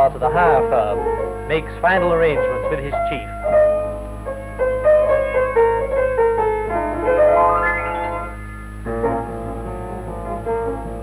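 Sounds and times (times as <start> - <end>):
low steady hum: 0.0 - 11.0
piano music: 0.0 - 11.0.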